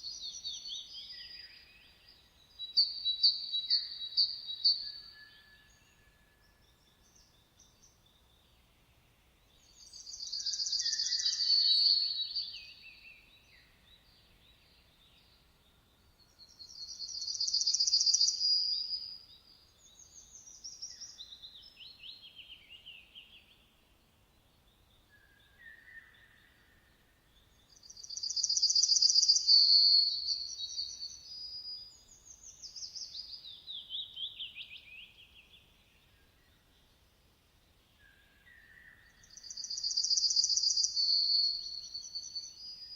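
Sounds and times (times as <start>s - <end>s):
songbird trilling song: 0.0s - 37.1s, 37.7s - 42.9s.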